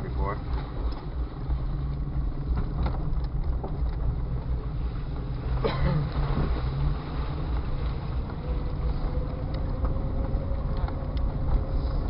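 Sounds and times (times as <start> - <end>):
low engine and drivetrain rumble: 0.0 - 12.0.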